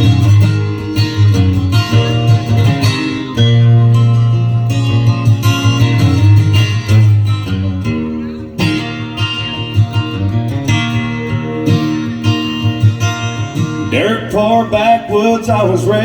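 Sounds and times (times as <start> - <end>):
acoustic guitar playing: 0.0 - 16.0
low bass notes: 0.0 - 16.0.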